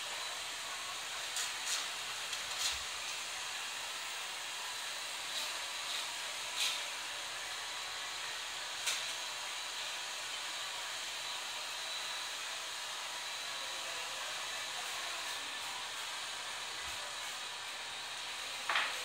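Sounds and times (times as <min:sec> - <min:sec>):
blow dryers hissing: 0:00.0 - 0:19.0.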